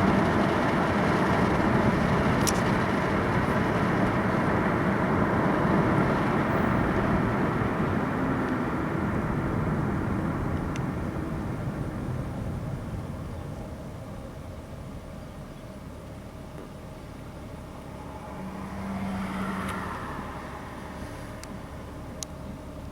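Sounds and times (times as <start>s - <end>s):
car cabin road and engine rumble: 0.0s - 22.9s.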